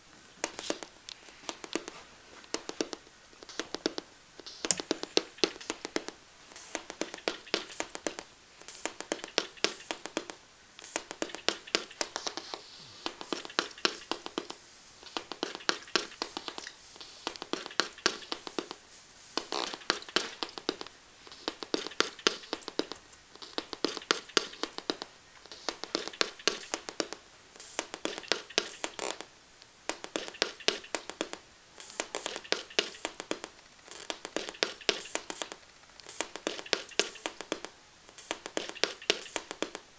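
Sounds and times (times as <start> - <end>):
loudspeakers clicking and crackling: 0.0 - 39.9.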